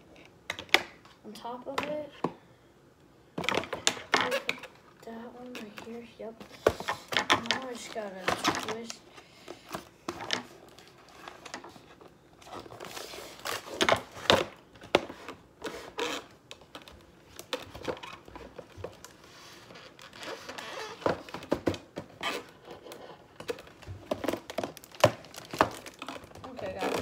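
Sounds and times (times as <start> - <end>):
cardboard packaging rustling: 3.4 - 27.0.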